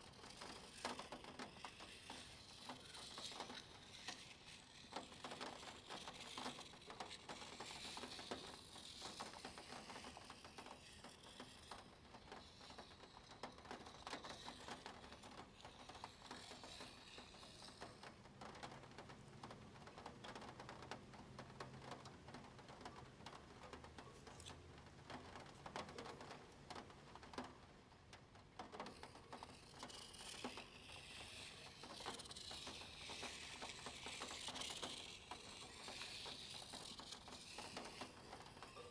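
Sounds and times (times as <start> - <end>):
plastic gear wheel ticking: 0.0 - 24.5, 28.4 - 38.9.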